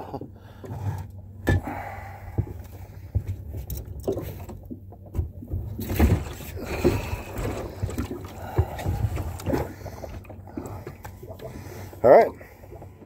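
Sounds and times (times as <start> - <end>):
knocks and bumps in a boat: 0.0 - 13.0.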